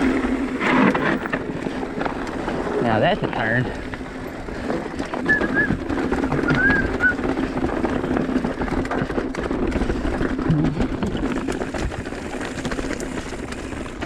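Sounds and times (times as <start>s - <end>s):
bike chain and frame rattling: 0.0s - 14.0s
tyres rumbling on rocky dirt: 0.0s - 14.0s.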